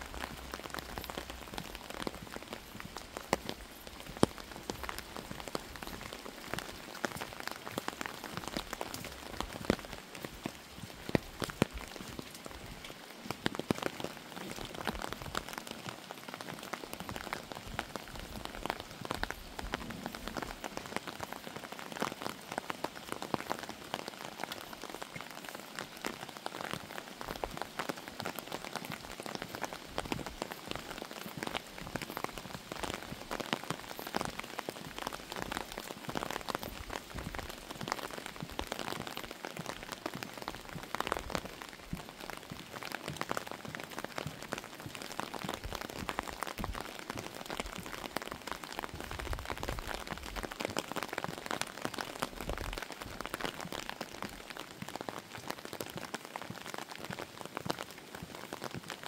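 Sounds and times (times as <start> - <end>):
raindrops ticking close by: 0.0 - 59.0
steady rain falling: 0.0 - 59.0.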